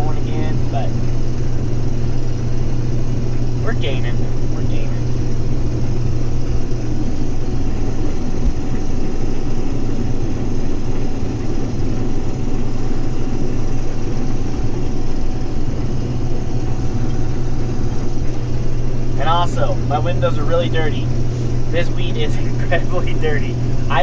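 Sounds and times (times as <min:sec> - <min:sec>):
combine harvester engine hum: 0:00.0 - 0:24.0.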